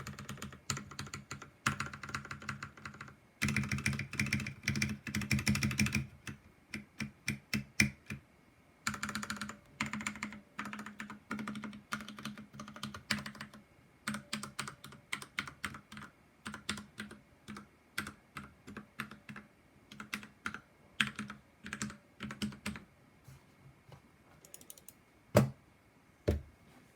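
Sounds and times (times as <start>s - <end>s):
typing on mechanical keyboard: 0.0s - 8.2s, 8.9s - 22.9s.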